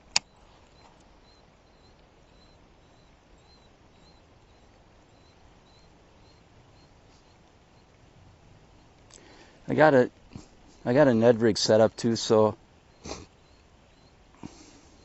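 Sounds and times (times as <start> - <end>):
faint high chirp: 0.0 - 8.0, 10.7 - 15.0
faint outdoor background hiss: 0.0 - 15.0.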